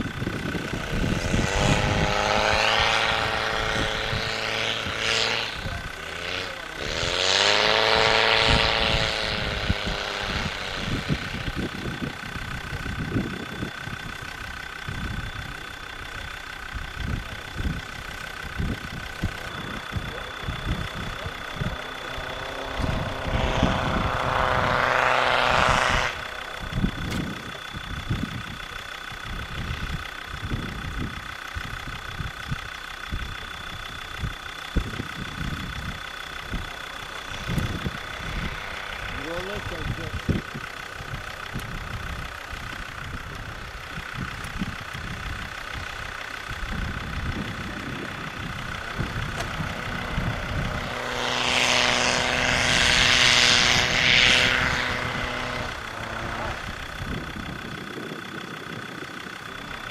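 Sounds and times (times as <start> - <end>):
diesel engine revving: 0.0 - 59.9
steady high whine: 0.0 - 59.9.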